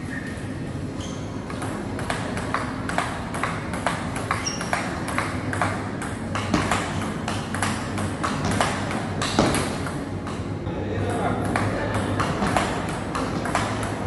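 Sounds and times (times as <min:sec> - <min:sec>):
low room hum: 0:00.0 - 0:14.0
ping pong ball clicking: 0:01.5 - 0:10.4, 0:11.3 - 0:14.0.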